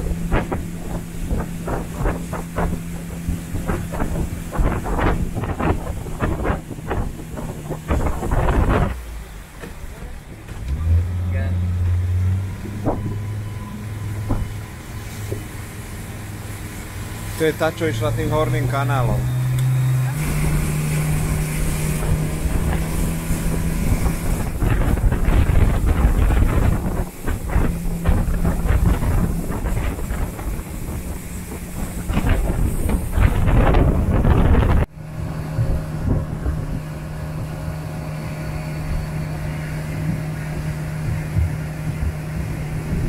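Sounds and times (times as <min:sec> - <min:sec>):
boat engine droning: 0:00.0 - 0:43.0
wind buffeting microphone: 0:00.0 - 0:43.0.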